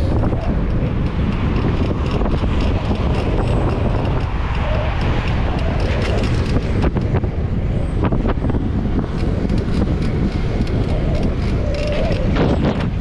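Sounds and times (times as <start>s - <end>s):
rattling clicks: 0.0s - 7.2s, 9.1s - 13.0s
tyre and road noise: 0.0s - 13.0s
wind buffeting microphone: 0.0s - 13.0s.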